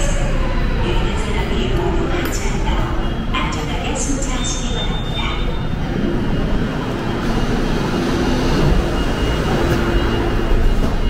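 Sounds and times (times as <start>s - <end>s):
subway train mechanical hum: 0.0s - 11.0s.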